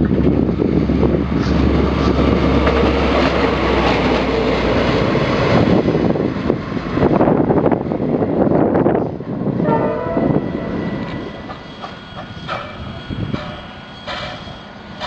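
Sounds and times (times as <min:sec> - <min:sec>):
diesel locomotive engine drone: 0:00.0 - 0:15.0
train wheel noise: 0:00.0 - 0:15.0.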